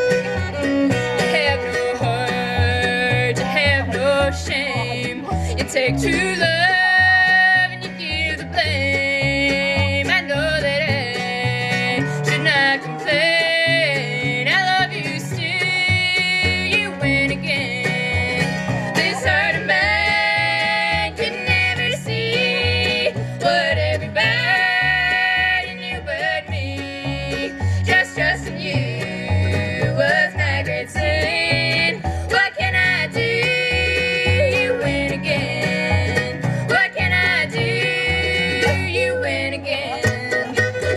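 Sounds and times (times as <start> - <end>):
bluegrass band playing: 0.0 - 40.9.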